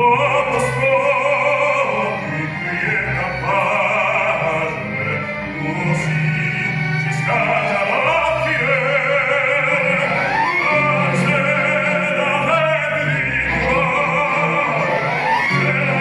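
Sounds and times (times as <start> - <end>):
operatic singing with vibrato: 0.0 - 16.0.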